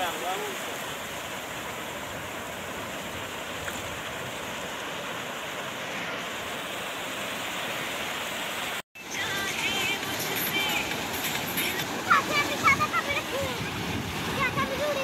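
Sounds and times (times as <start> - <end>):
small waves breaking on sand: 0.0 - 15.0.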